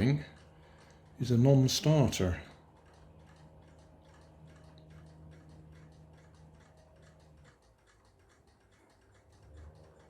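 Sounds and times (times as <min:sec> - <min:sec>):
faint regular ticking: 0:00.0 - 0:10.0
low steady hum: 0:00.0 - 0:10.0.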